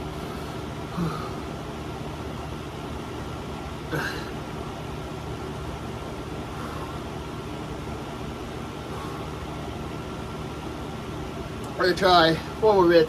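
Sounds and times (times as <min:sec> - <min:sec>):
electric fan whirring: 0:00.0 - 0:13.0.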